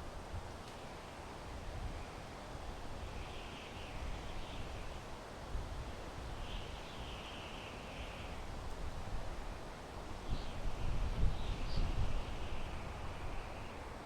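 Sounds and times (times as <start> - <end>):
wind through pine trees: 0.0 - 14.0.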